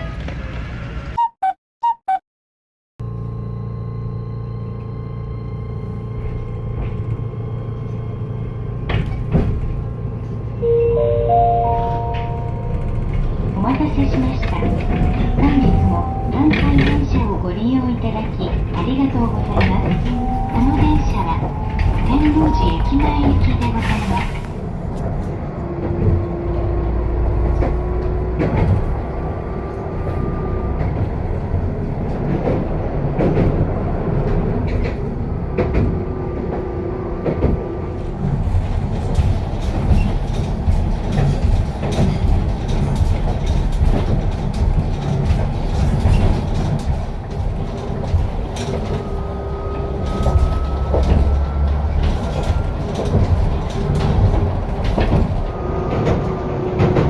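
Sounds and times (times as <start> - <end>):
streetcar rumble: 0.0 - 1.2, 3.0 - 57.0
rattles and clicks over rail joints: 6.3 - 10.6, 12.1 - 57.0.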